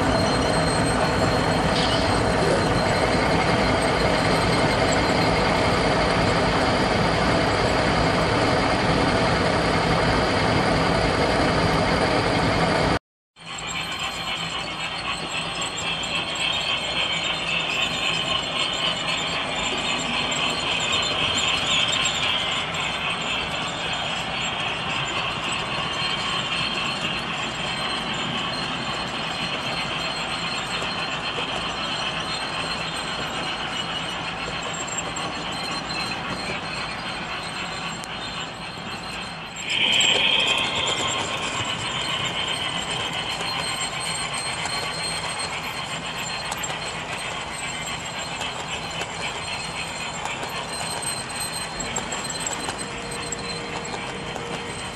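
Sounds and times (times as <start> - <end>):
model train wheels rattling on rail: 0.0 - 9.6, 13.4 - 54.9
high squeal: 0.0 - 54.9.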